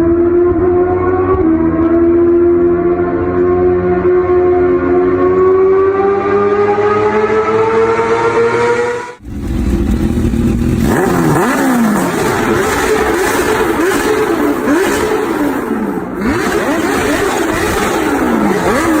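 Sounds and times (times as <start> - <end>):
motorcycle engine revving hard: 0.0 - 19.0.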